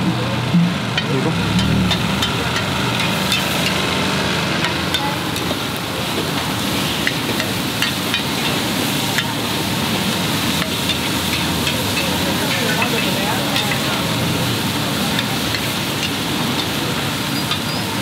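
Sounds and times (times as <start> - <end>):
food sizzling in a wok: 1.5 - 18.0.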